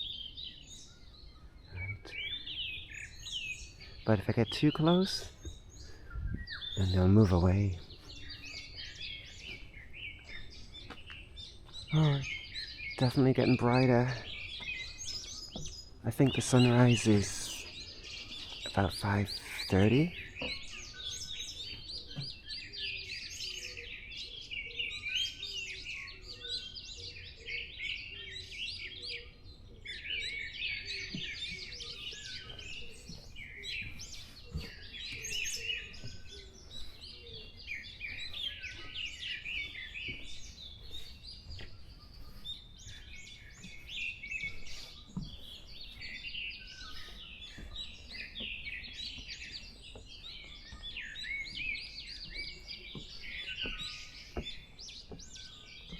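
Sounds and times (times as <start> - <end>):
forest birds singing and chirping: 0.0 - 55.9.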